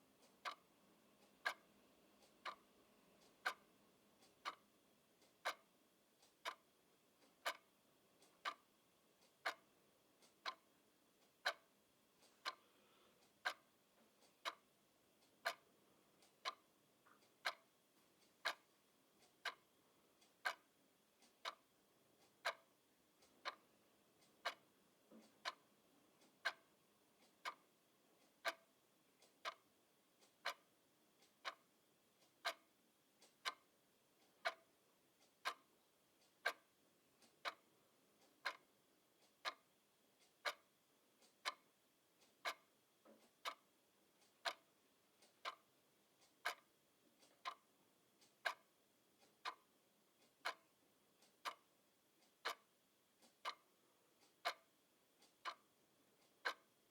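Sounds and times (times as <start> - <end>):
clock ticking: 0.0 - 56.9.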